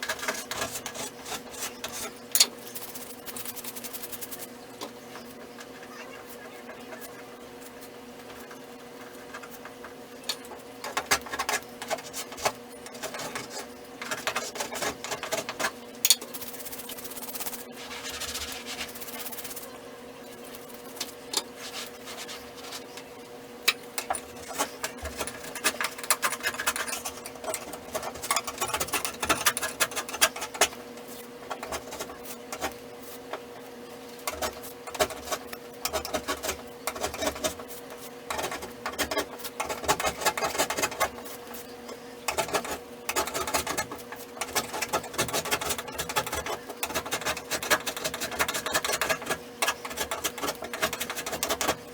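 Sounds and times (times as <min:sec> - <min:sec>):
scraping and clicking on a wall: 0:00.0 - 0:06.0, 0:06.6 - 0:19.8, 0:20.4 - 0:23.1, 0:23.7 - 0:51.9.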